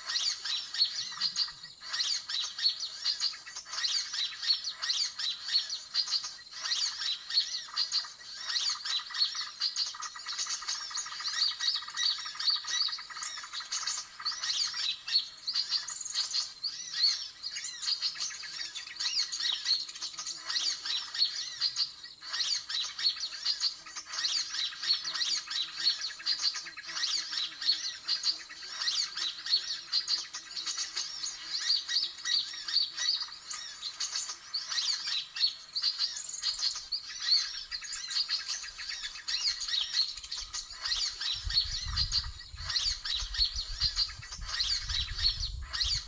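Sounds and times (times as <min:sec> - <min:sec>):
small birds chattering: 0:00.0 - 0:46.0.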